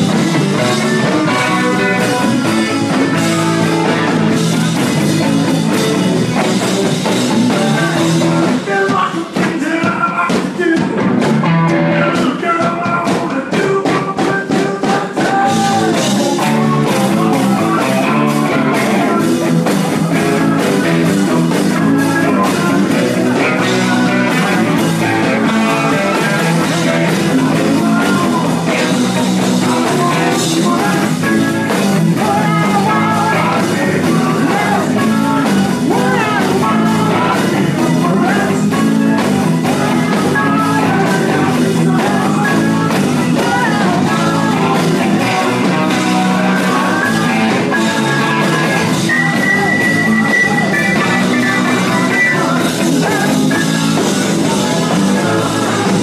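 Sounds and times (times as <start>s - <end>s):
drums: 0.0s - 56.0s
electric guitar: 0.0s - 56.0s
live rock band playing: 0.0s - 56.0s
person singing: 0.0s - 56.0s.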